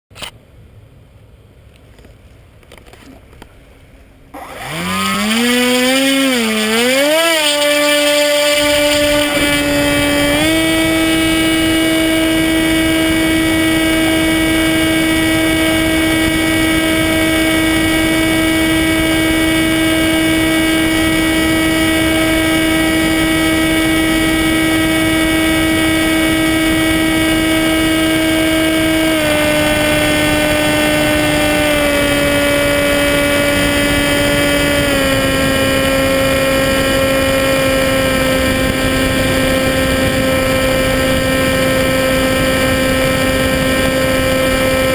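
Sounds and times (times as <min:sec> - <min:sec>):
electric motor and propeller whine: 0:04.3 - 0:44.9.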